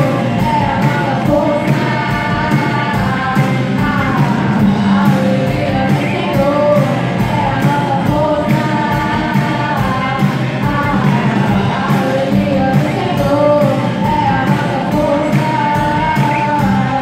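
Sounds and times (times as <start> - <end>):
live band playing: 0.0 - 17.0
woman singing: 0.0 - 17.0.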